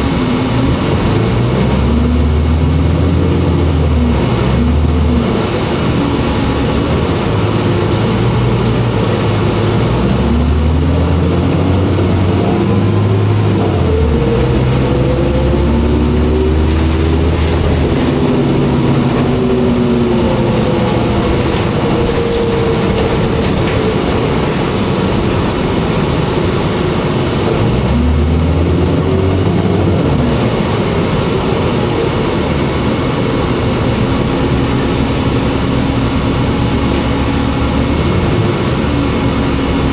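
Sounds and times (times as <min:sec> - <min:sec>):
bus engine drone: 0:00.0 - 0:39.9
road noise: 0:00.0 - 0:39.9
transmission whine: 0:00.0 - 0:39.9.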